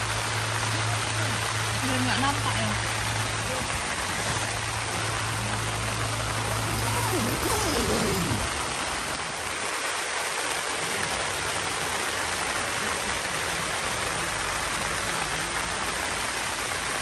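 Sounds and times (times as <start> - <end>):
rain falling on a tent: 0.0 - 17.0.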